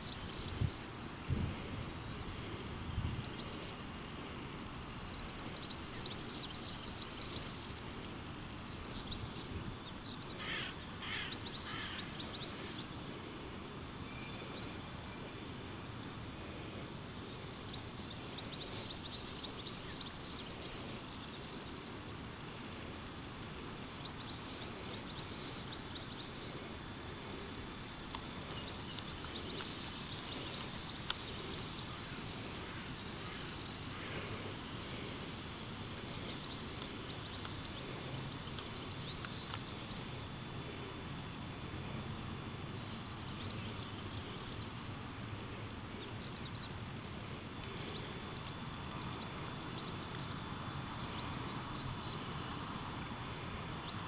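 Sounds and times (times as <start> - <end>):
small birds chirping: 0.0 - 4.0, 4.7 - 41.0, 42.7 - 54.0.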